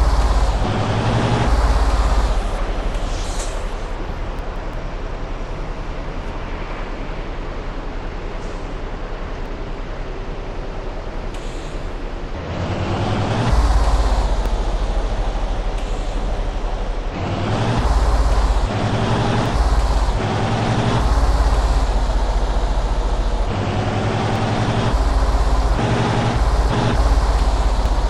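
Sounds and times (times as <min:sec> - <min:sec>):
truck engine under load: 0:00.0 - 0:28.0.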